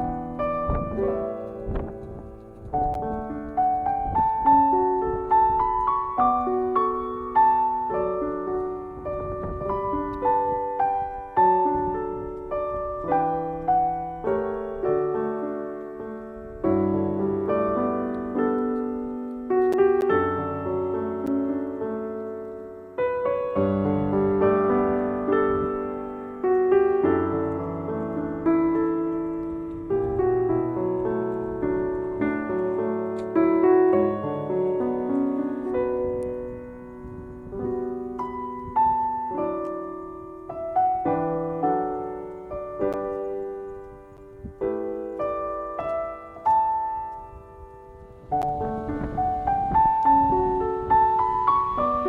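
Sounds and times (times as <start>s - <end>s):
slow piano notes and chords: 0.0s - 52.0s.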